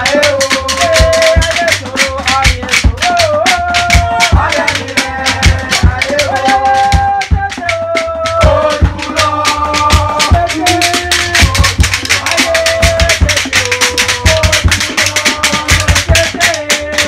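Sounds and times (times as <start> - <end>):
rattle beat: 0.0 - 17.0.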